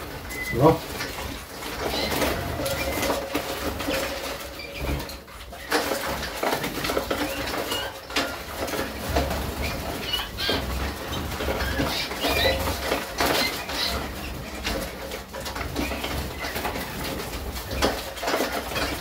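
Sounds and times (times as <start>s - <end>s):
birds fluttering wings: 0.0s - 19.0s.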